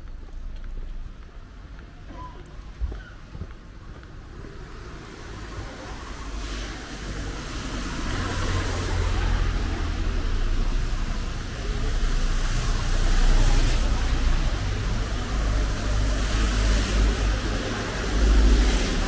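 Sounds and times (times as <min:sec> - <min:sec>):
car passing on street: 0:02.4 - 0:19.0.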